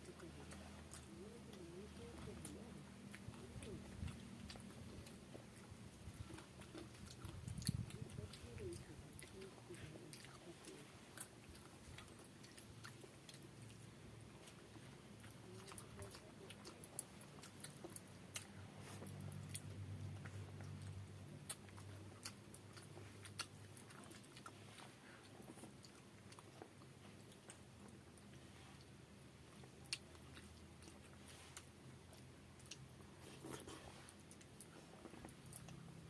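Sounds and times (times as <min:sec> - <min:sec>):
chewing and wet mouth clicks: 0:00.0 - 0:36.0.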